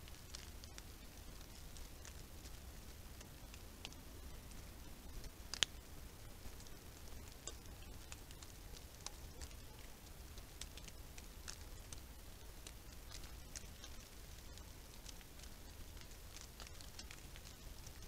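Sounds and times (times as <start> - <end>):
faint ticks and crackles: 0.0 - 18.0
steady low hiss: 0.0 - 18.0.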